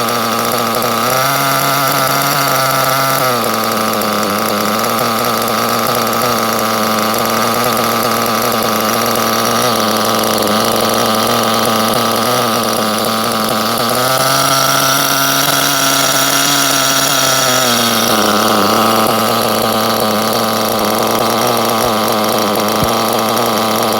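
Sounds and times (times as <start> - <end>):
small engine idling: 0.0 - 23.9.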